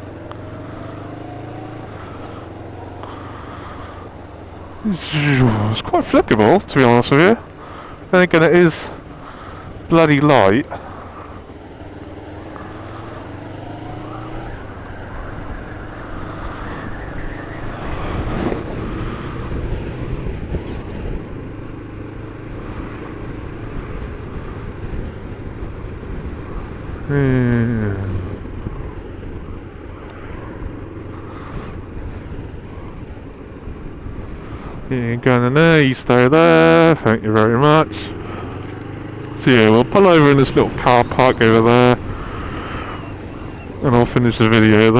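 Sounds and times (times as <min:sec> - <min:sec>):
motorcycle engine revving: 0:00.0 - 0:44.9
motorcycle engine running: 0:00.0 - 0:44.9.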